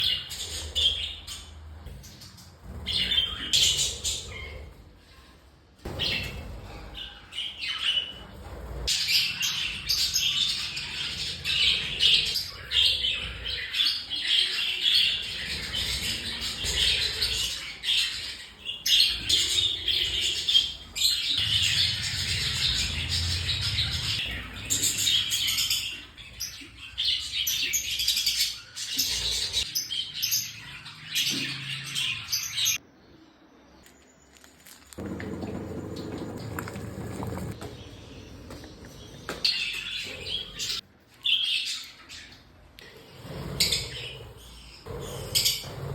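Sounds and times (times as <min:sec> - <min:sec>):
lovebirds chattering and squawking: 0:05.9 - 0:32.8, 0:35.0 - 0:45.9.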